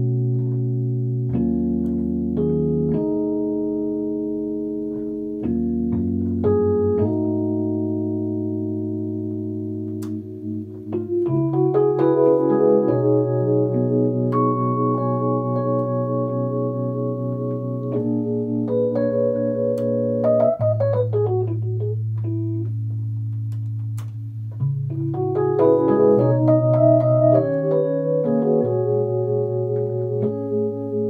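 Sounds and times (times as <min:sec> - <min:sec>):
electric piano chords: 0:00.0 - 0:31.0.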